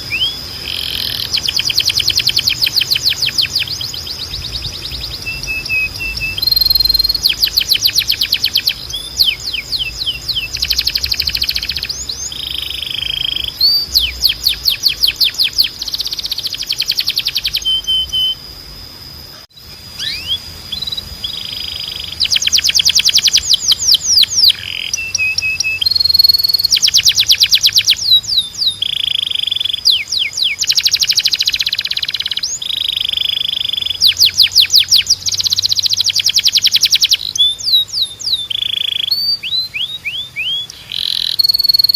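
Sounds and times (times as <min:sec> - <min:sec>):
canary singing trills: 0:00.0 - 0:41.9
thin steady high tone: 0:00.0 - 0:41.9.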